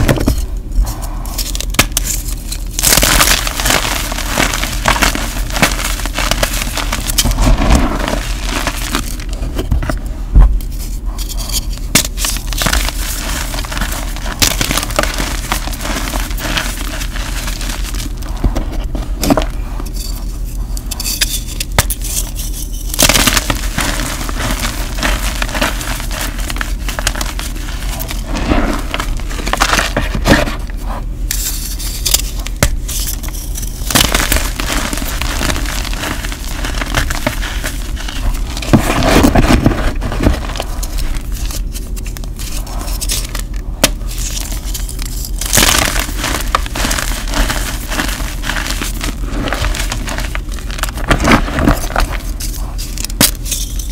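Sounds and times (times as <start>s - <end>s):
chalk crunching and crumbling: 0.0s - 53.9s.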